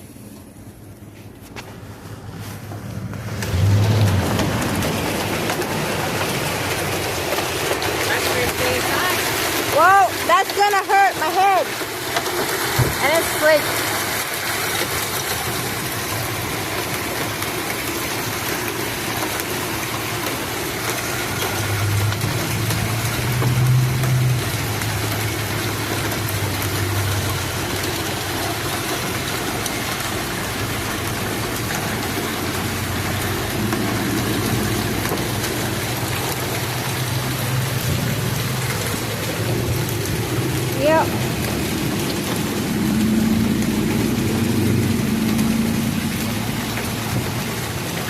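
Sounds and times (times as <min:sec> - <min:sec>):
hail and rain pelting: 0:01.6 - 0:48.0.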